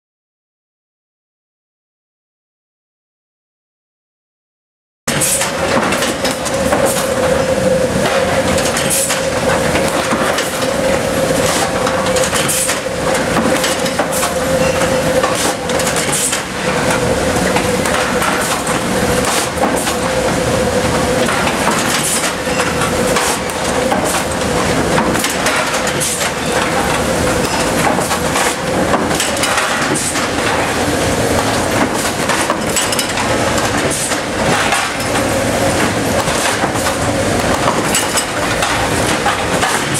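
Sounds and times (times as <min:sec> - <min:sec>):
loud machine hum: 0:05.1 - 0:39.9.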